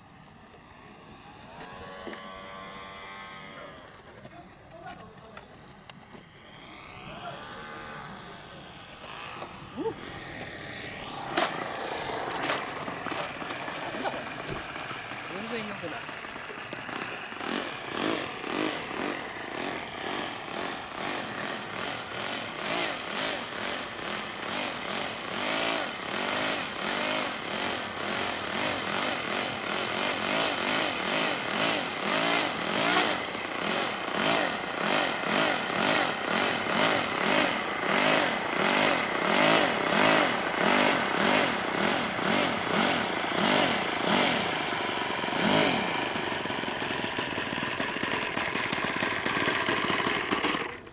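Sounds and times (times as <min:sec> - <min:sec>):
model airplane engine at high revs: 0:00.0 - 0:50.9.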